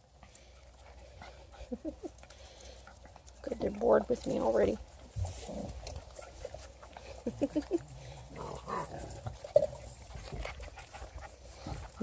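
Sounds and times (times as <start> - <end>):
puppies vocalizing: 0.0 - 12.0.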